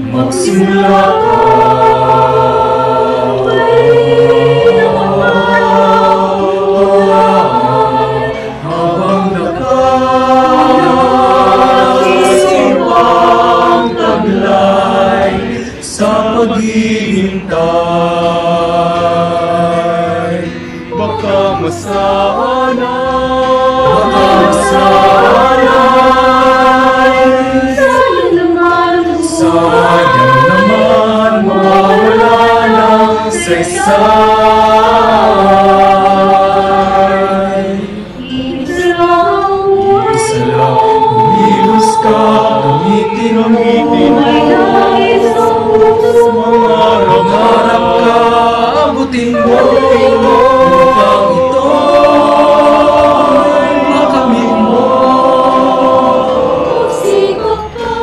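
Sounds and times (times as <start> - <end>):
mixed choir singing in harmony: 0.0 - 58.0.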